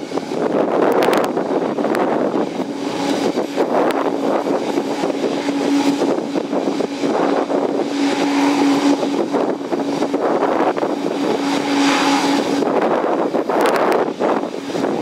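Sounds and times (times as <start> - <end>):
rushing propeller noise: 0.0 - 15.0
turboprop engines idling: 0.0 - 15.0.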